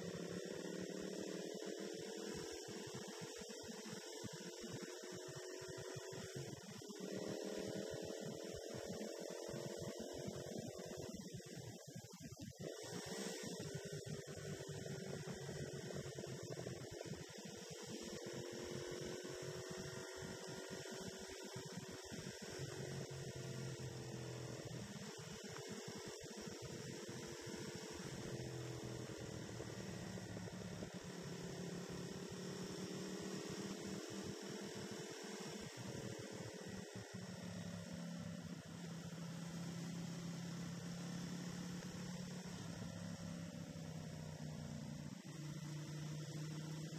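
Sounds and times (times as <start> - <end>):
motorcycle engine droning: 0.0 - 46.9.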